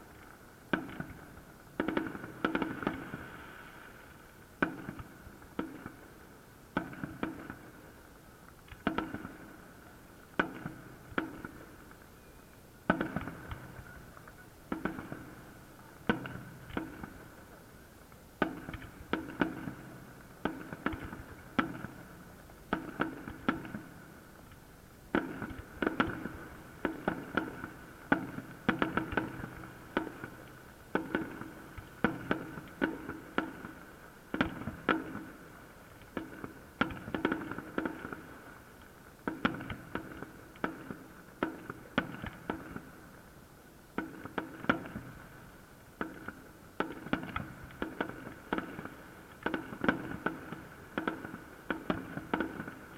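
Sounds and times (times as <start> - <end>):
fireworks bursting with loud bangs: 0.0 - 52.9.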